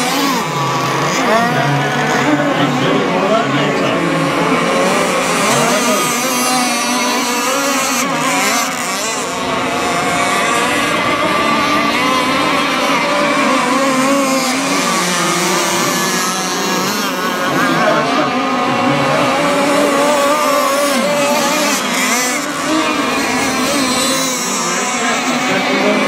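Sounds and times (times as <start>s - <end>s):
model boat engines revving: 0.0s - 26.0s.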